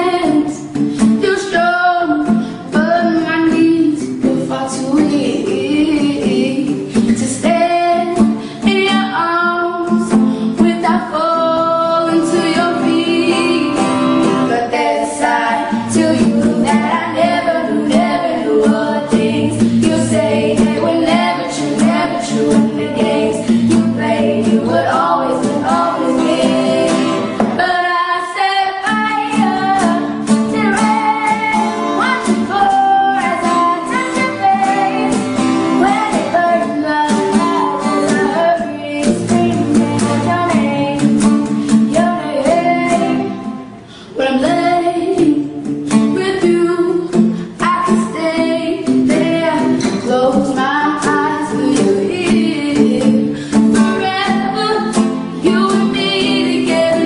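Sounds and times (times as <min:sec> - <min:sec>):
guitar and other instruments: 0:00.0 - 0:27.8, 0:28.8 - 0:57.0
woman singing a ballad: 0:00.0 - 0:57.0.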